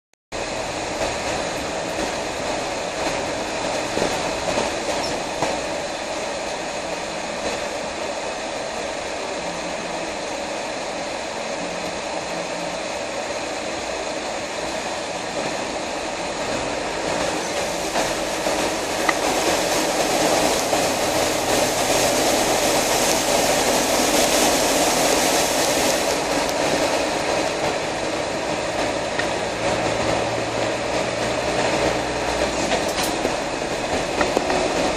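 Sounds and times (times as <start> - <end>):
drivetrain whine: 0.3 - 34.9
vehicle engine and tyre noise: 0.3 - 34.9
water spraying hiss: 0.4 - 34.9.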